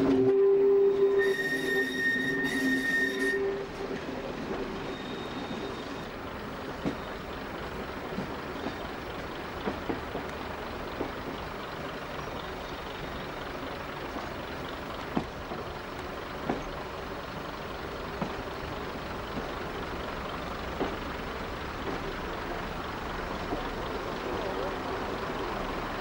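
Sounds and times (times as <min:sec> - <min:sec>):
train engine drone: 0:00.0 - 0:26.0
wheels clicking on track: 0:01.2 - 0:26.0.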